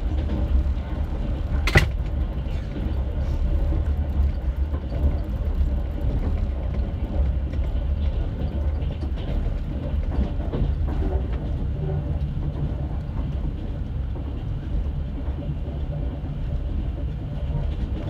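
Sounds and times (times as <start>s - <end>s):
train coach rumbling: 0.0s - 18.0s.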